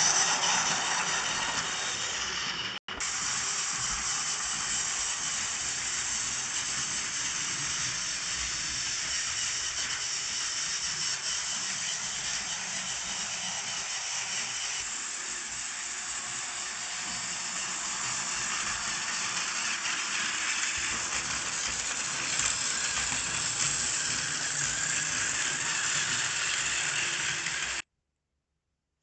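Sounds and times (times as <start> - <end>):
toy train motor whirring: 0.0 - 27.8.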